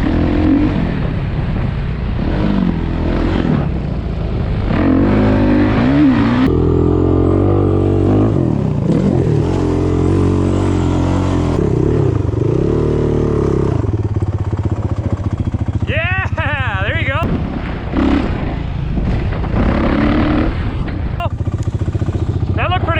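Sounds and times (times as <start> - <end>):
wind and rushing air: 0.0 - 22.6
off-road engine revving: 0.0 - 22.9.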